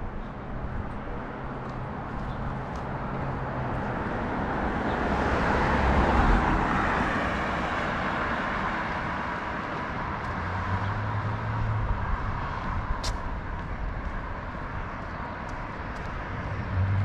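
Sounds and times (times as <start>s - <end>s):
steady traffic noise: 0.0s - 17.0s.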